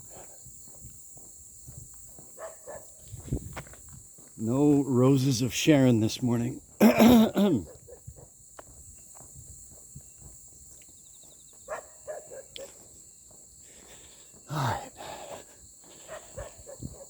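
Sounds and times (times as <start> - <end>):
footsteps on a road: 0.0 - 17.0
insects chirring: 0.0 - 17.0.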